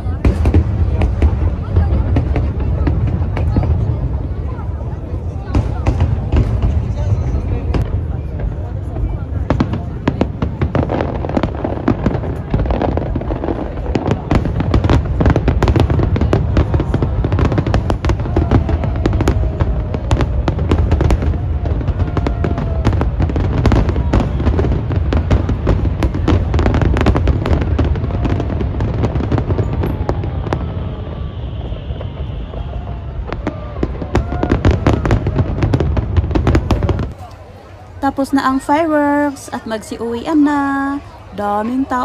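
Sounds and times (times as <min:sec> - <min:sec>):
fireworks booming and crackling: 0:00.0 - 0:42.0.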